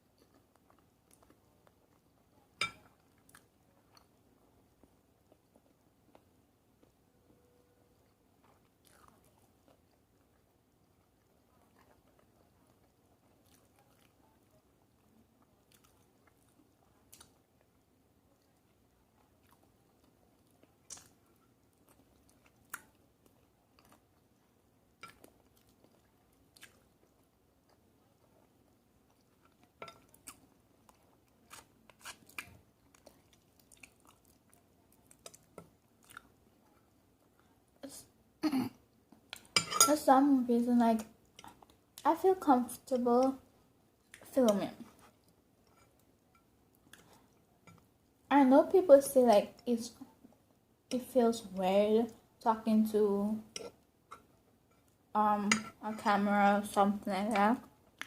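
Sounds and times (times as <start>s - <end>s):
chewing and crunching food: 0.0s - 38.2s, 40.9s - 48.3s, 56.8s - 58.0s.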